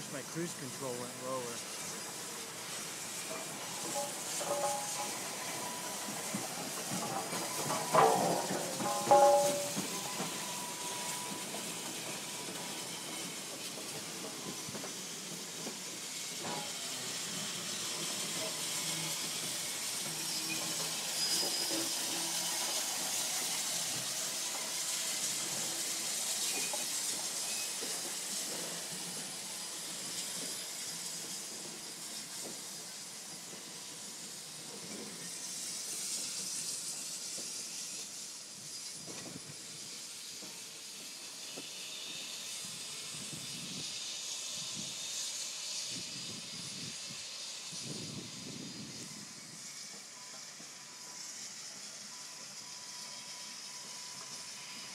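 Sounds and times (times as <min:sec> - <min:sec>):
steady hiss of steam: 0:00.0 - 0:54.9
steam locomotive rolling: 0:00.0 - 0:54.9.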